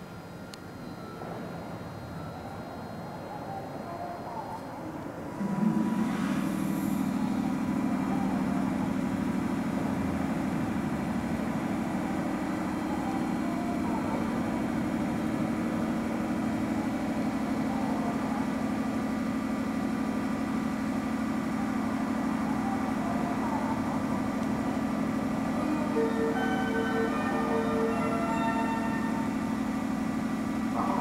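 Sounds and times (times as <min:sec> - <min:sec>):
train machinery droning: 0:00.0 - 0:31.0.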